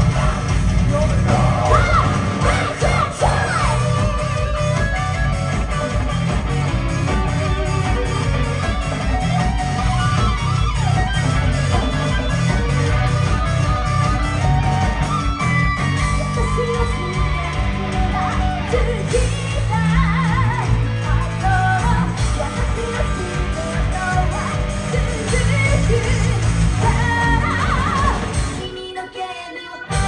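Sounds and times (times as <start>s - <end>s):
electric guitar lead: 0.0s - 30.0s
live heavy metal band: 0.0s - 30.0s.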